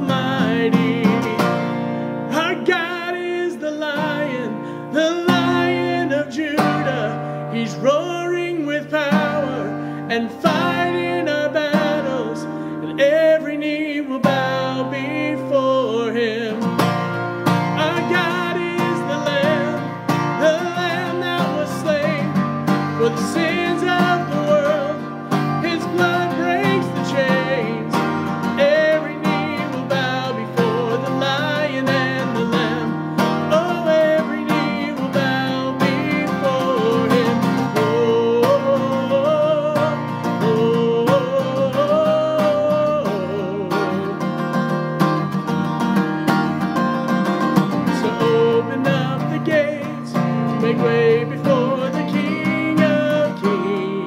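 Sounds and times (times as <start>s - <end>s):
man singing: 0.0s - 44.9s, 46.8s - 54.0s
acoustic guitar strumming: 0.0s - 54.0s.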